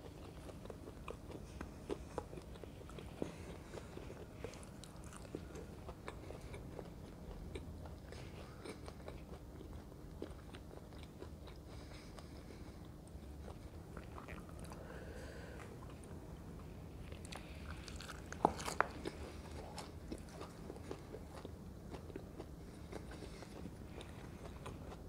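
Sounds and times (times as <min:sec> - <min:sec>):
chewing crispy fritters: 0:00.0 - 0:25.0.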